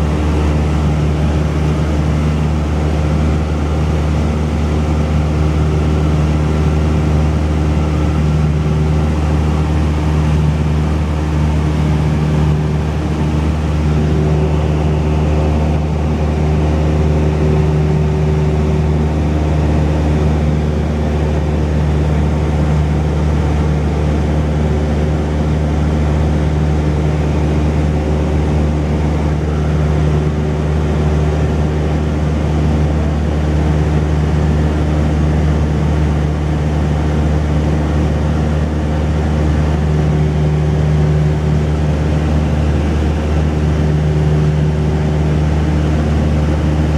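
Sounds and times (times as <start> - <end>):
propeller plane engine drone: 0.0 - 46.9.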